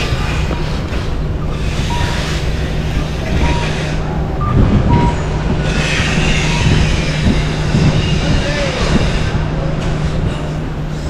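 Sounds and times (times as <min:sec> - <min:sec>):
indistinct voices: 0:00.0 - 0:11.0
low hum: 0:00.0 - 0:11.0
traffic noise: 0:00.0 - 0:11.0.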